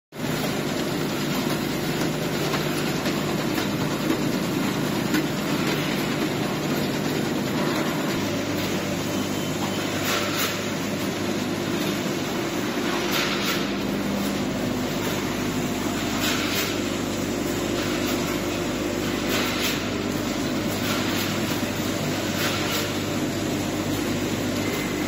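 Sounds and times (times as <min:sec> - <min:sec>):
packaging line humming: 0:00.2 - 0:25.0.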